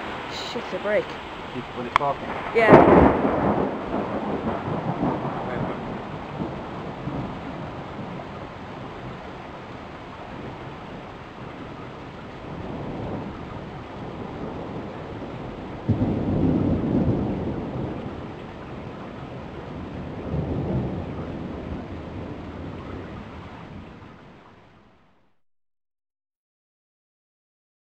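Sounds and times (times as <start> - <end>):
rolling thunder: 0.0 - 25.2
thunderclap: 0.0 - 25.2
steady rain: 0.0 - 25.4.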